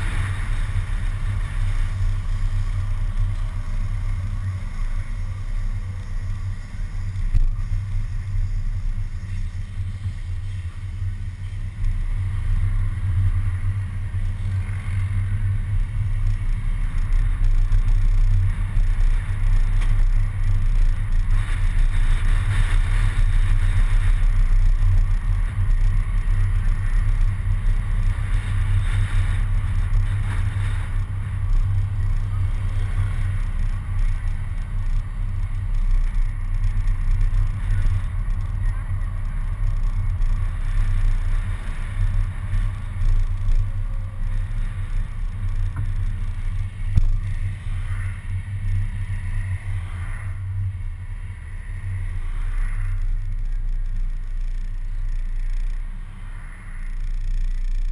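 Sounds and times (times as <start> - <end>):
wind buffeting camera: 0.0 - 55.8
road and traffic noise: 0.0 - 57.9.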